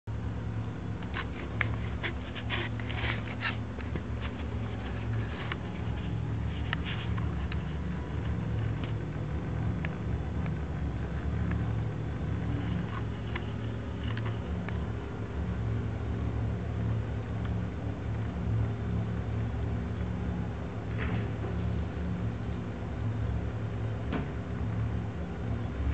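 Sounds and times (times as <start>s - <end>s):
aquarium filter pump humming: 0.1s - 25.9s.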